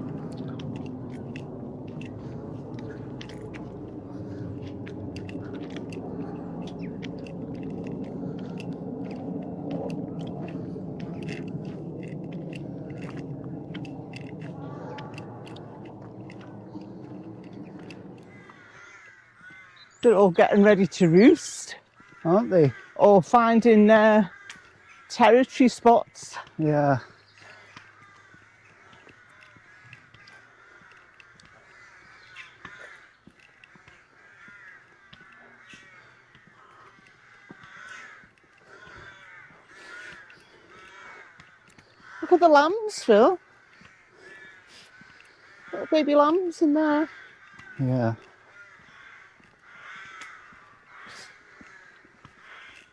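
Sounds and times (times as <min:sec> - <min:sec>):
crows calling: 0:00.0 - 0:52.9.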